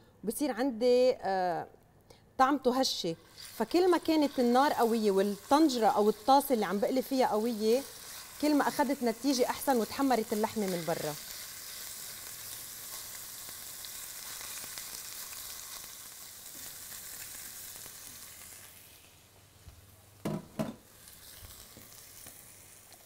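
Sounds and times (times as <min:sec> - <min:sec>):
meat sizzling in hot oil: 0:03.2 - 0:19.3, 0:20.6 - 0:23.0.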